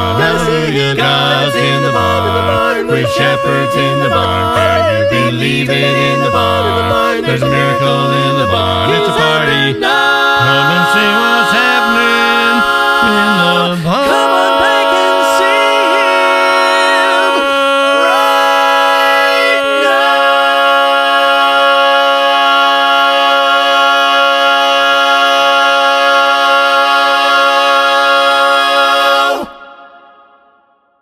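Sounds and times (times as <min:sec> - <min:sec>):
men singing a cappella: 0:00.0 - 0:30.1.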